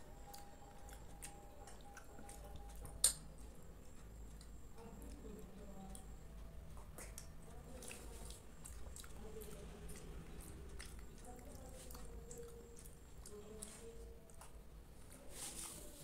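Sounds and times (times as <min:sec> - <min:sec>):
wet chewing and lip smacks: 0:00.2 - 0:14.6.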